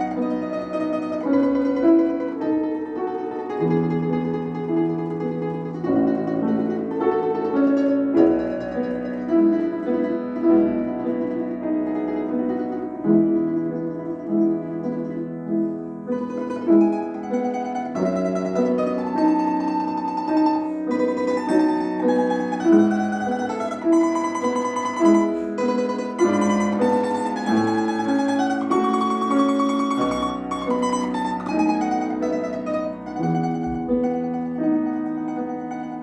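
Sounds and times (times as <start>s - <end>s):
piano accompaniment: 0.0s - 36.0s
plucked mandolin melody: 0.0s - 36.0s.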